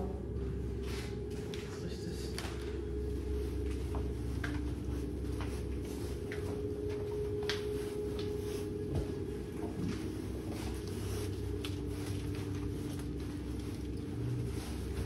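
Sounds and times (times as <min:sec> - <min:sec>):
low hum: 0:00.0 - 0:15.0
footsteps on hard floor: 0:02.4 - 0:15.0.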